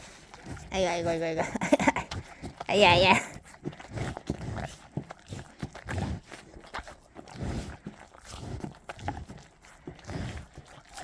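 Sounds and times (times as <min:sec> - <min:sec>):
cow breathing puffs: 0:00.0 - 0:11.0.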